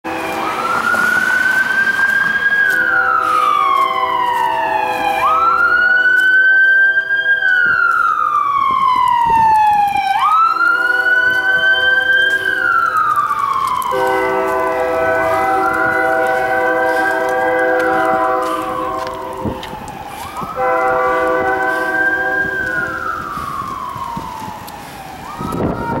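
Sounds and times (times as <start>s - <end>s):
locomotive air horn: 0.0s - 8.1s, 10.2s - 13.1s, 13.8s - 23.7s
siren wailing: 0.1s - 26.0s.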